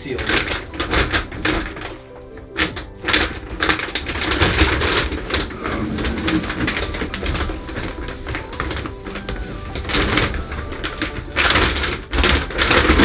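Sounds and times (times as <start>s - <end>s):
plastic sheet crinkling and rustling: 0.0s - 13.0s.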